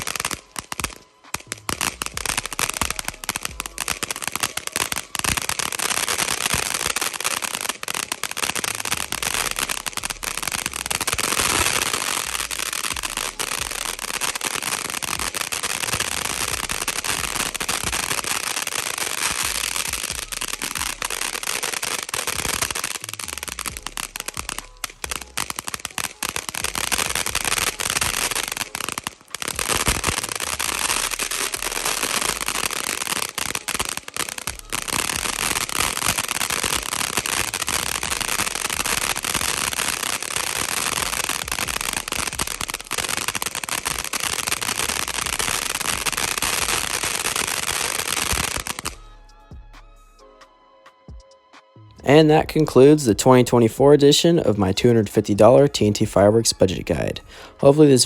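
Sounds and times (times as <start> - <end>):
crackling fountain firework: 0.0 - 49.1, 52.0 - 58.0.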